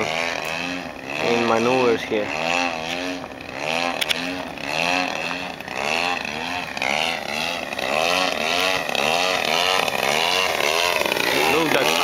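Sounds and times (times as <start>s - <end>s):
model plane engine: 0.0s - 12.0s.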